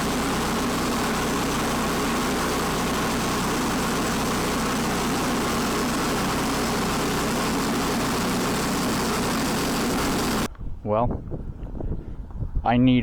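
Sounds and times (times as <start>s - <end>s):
sawmill engine running: 0.0s - 10.5s.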